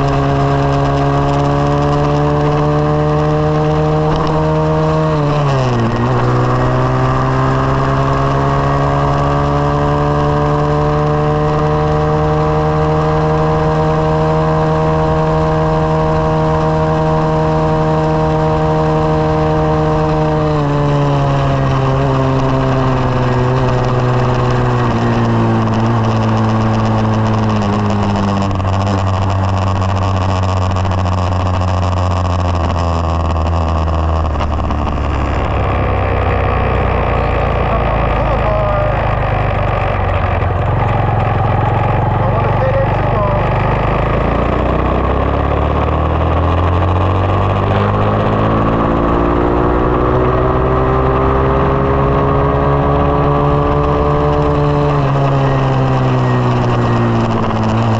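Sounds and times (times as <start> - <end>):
dirt bike engine running: 0.0 - 57.9.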